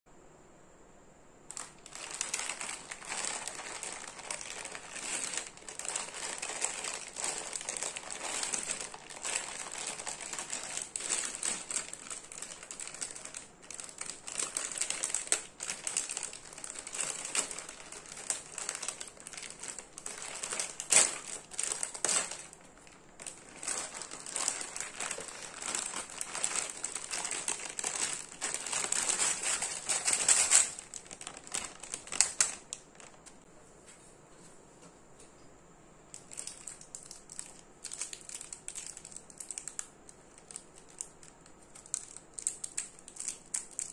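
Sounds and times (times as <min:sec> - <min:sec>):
plastic bag crinkling: 0:01.5 - 0:33.4, 0:36.1 - 0:43.9.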